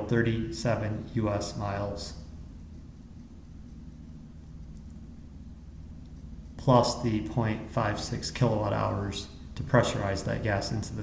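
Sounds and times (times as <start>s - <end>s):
faint low hum with hiss: 0.0s - 11.0s.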